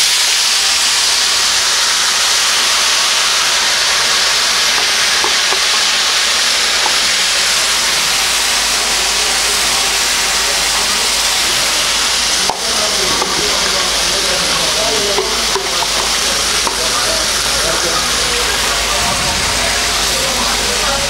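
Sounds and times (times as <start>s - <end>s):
vegetables sizzling in frying pan: 0.0s - 21.0s.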